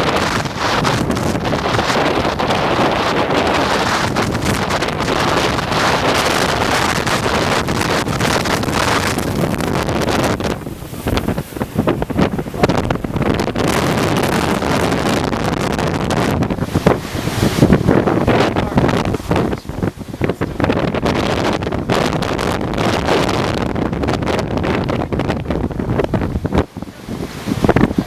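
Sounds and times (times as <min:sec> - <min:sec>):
storm wind gusting on microphone: 0:00.0 - 0:28.0.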